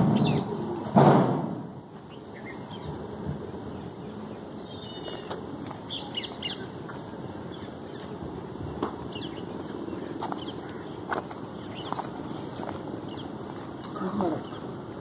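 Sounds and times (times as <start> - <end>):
small birds chirping: 2.0 - 14.8.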